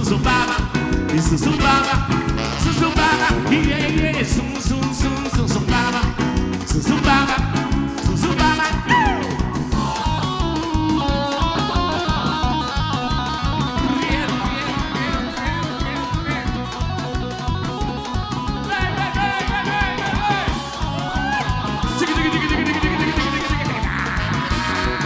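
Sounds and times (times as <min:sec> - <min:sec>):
drum and bass beat: 0:00.0 - 0:25.0
lead guitar line: 0:00.0 - 0:25.0.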